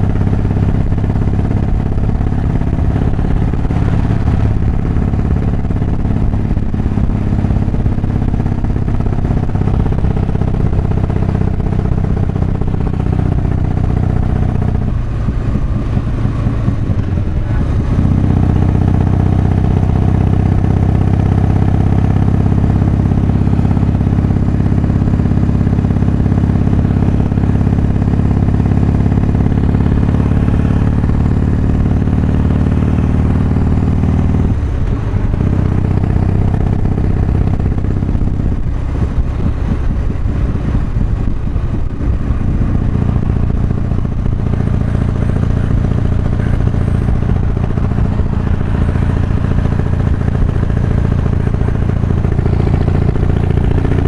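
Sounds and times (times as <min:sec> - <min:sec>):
motorcycle engine running at speed: 0:00.0 - 0:54.0.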